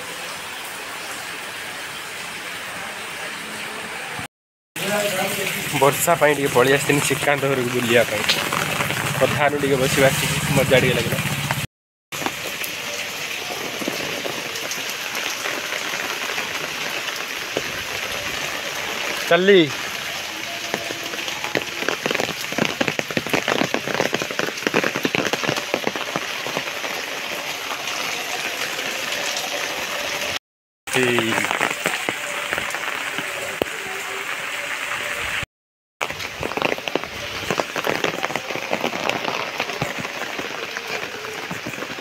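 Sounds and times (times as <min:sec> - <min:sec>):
rain falling on foliage: 0:04.8 - 0:35.4, 0:36.0 - 0:42.0.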